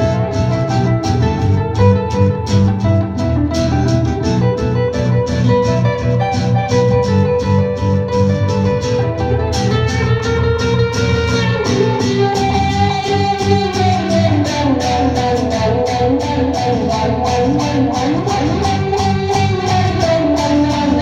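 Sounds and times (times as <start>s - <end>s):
bass line: 0.0s - 21.0s
electric guitar: 0.0s - 21.0s
steady drum beat: 0.0s - 21.0s.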